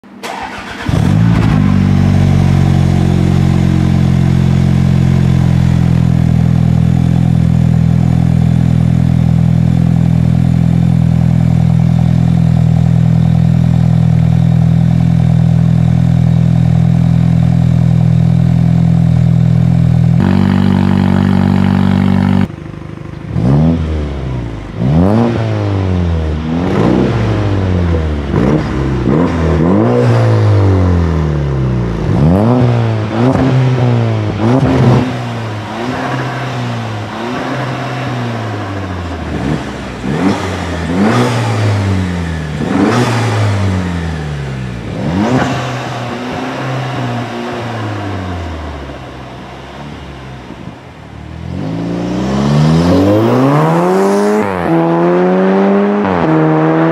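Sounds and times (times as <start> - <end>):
car engine starting and idling: 0.0 - 55.5
car engine revving: 0.0 - 56.9.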